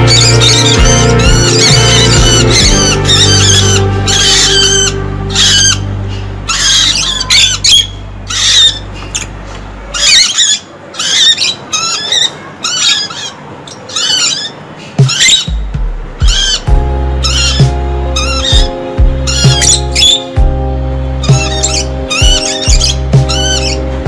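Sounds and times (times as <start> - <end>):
background music low tones: 0.0 - 10.6, 14.3 - 24.0
parrots squawking: 0.0 - 15.6, 16.2 - 20.4, 21.2 - 24.0.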